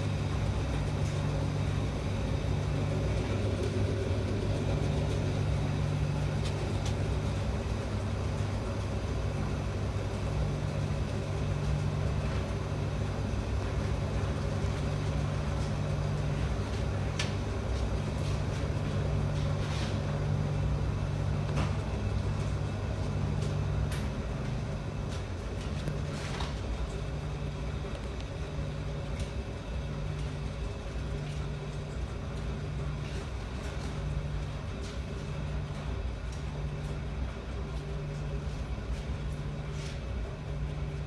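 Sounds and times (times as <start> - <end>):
washing machine motor hum: 0.0 - 41.0.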